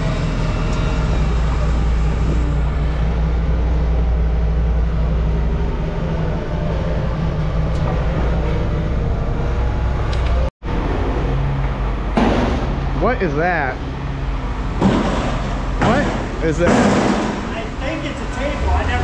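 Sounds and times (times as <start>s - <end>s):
large engine droning: 0.0s - 19.0s.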